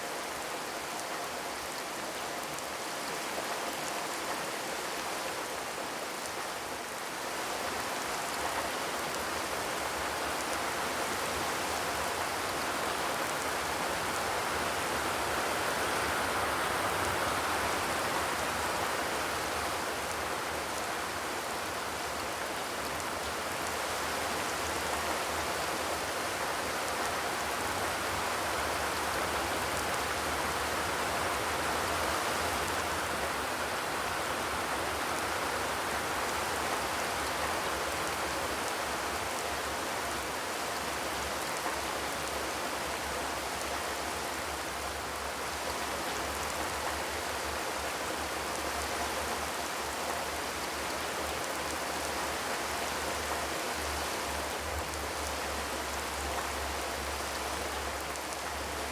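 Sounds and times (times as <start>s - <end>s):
rain on a metal roof: 0.0s - 58.9s.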